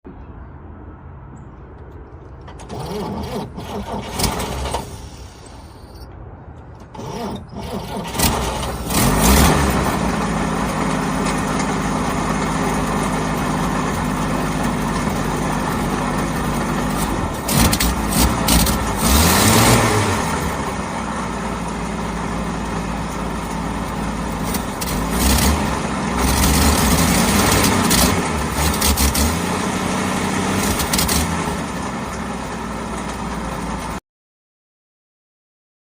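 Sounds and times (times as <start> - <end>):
car engine idling and revving: 2.2 - 34.0.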